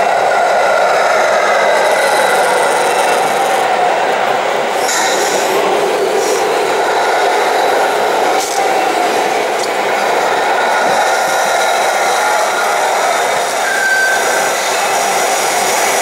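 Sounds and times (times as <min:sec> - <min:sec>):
hydraulic pump whining: 0:00.0 - 0:16.0.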